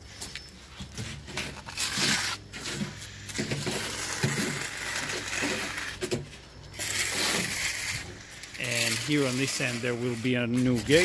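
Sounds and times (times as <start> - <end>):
shovel scraping wet concrete: 1.0 - 11.0.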